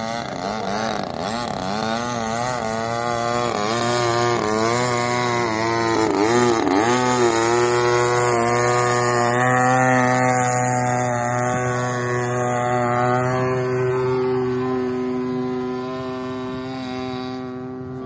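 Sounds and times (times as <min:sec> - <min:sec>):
model plane engine and propeller: 0:00.0 - 0:18.0.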